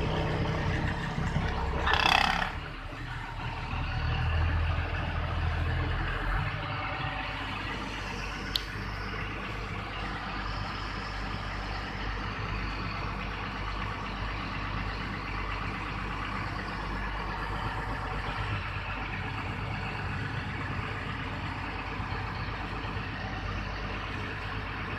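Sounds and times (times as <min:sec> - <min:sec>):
road noise: 0:00.0 - 0:24.9
truck engine running: 0:00.0 - 0:24.9.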